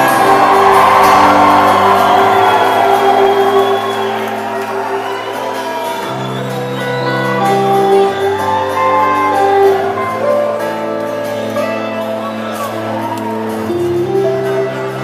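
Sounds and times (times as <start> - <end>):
faint crowd noise: 0.0 - 15.0
rock band playing live: 0.0 - 15.0.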